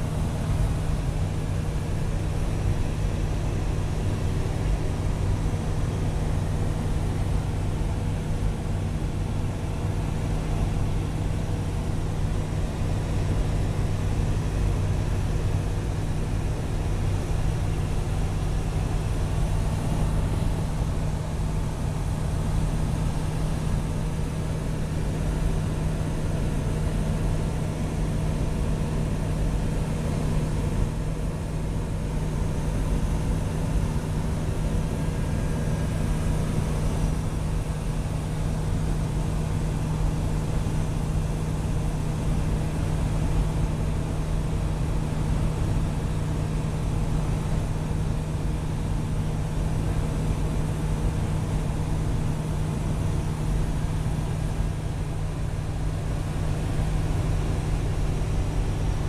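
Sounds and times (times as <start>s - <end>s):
propeller aircraft engine humming: 0.0s - 59.0s.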